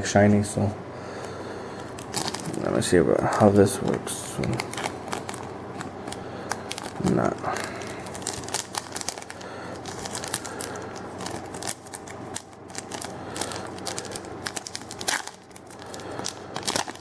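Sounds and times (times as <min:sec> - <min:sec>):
foil wrapper crinkling and tearing: 0:01.9 - 0:17.0.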